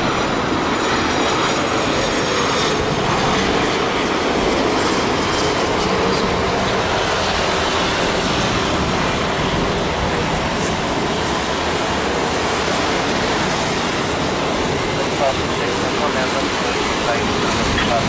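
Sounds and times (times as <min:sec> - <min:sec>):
high engine whine: 0:00.0 - 0:18.0
jet engine rushing: 0:00.0 - 0:18.0.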